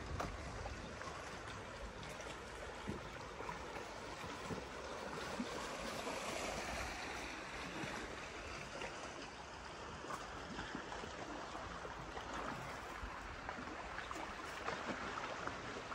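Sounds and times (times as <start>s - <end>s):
lakeside water rushing: 0.0s - 15.9s.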